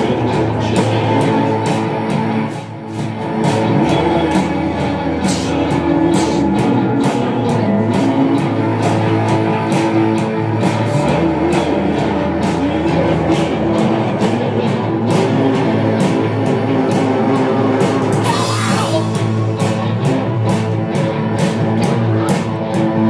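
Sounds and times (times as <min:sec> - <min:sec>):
loud rock music: 0:00.0 - 0:23.0
deep bass note: 0:03.0 - 0:23.0.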